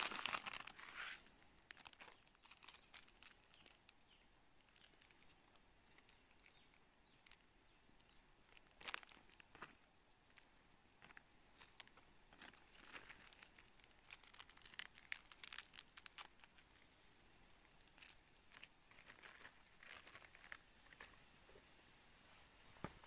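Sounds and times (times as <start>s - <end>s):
leaves and twigs rustling: 0.0s - 23.0s.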